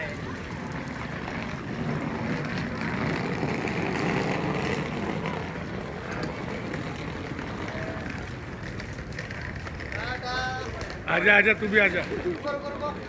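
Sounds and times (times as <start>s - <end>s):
wheeled suitcases rolling on pavement: 0.0s - 13.0s.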